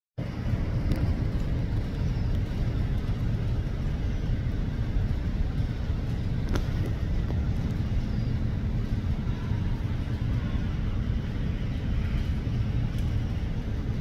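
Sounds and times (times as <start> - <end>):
distant jet airliner rumble: 0.2 - 14.0.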